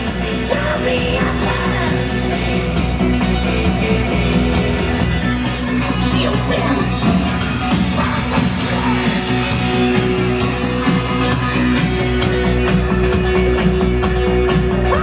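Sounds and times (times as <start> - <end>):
radio song with guitar: 0.0 - 15.0.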